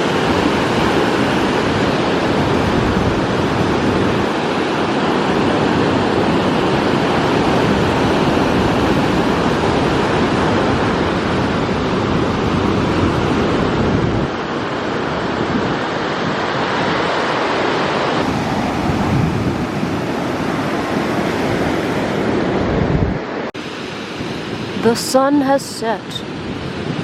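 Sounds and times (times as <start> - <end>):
wind on microphone: 0.0 - 25.1
ocean surf on beach: 0.0 - 27.0.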